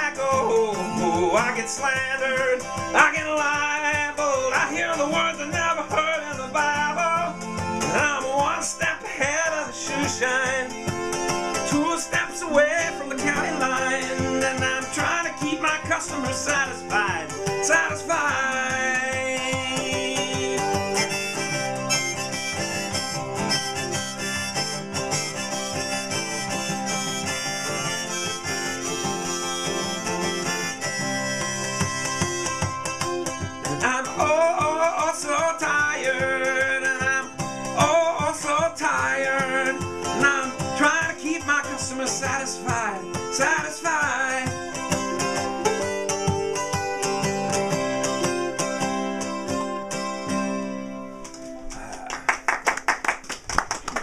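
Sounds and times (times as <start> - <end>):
harmonica solo: 0.0 - 51.8
strummed acoustic guitar: 0.0 - 52.4.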